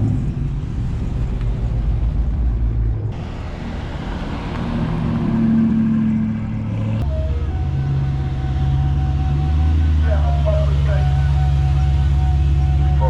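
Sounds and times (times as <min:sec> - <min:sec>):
car engines running: 0:00.0 - 0:13.0
engine revving: 0:00.0 - 0:13.0.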